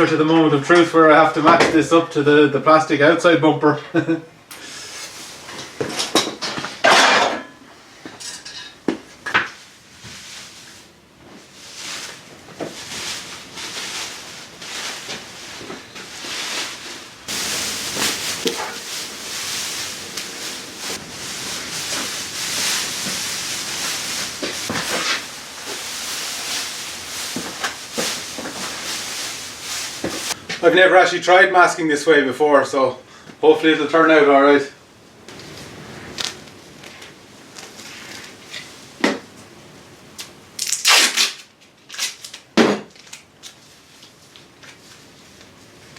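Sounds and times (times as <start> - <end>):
steady rustling hiss: 0.0 - 42.1.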